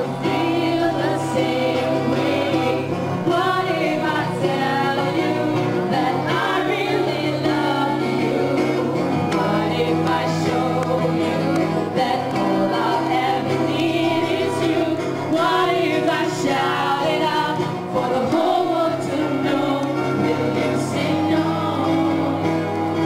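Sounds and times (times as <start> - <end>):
voices singing together: 0.0 - 23.0.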